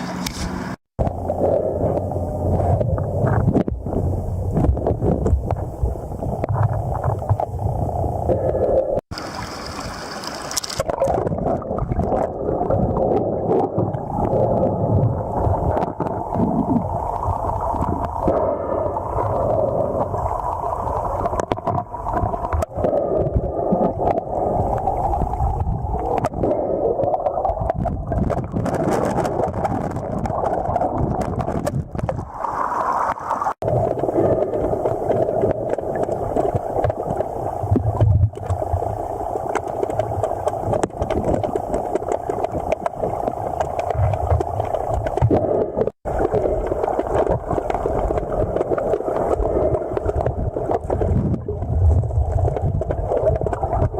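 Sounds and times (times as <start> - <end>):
river current underwater: 0.0 - 53.9.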